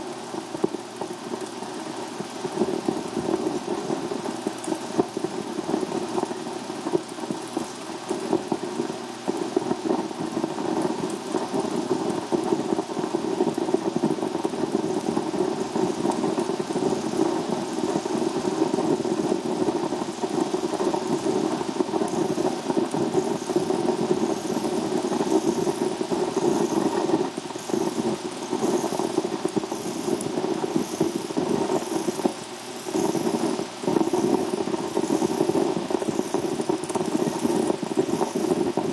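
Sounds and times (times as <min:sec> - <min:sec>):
film projector rattling buzz: 0:00.0 - 0:38.9.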